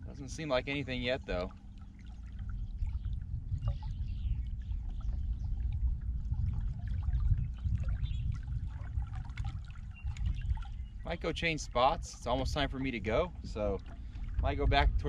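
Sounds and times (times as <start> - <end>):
faint steady hum: 0.0 - 15.0
low fluctuating rumble: 0.0 - 15.0
waves lapping against hull: 0.0 - 15.0.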